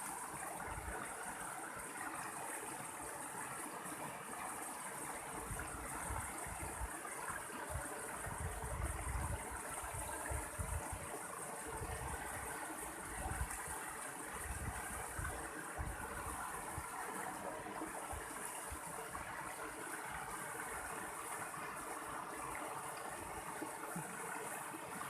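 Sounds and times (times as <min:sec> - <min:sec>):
stream flowing: 0:00.0 - 0:25.0.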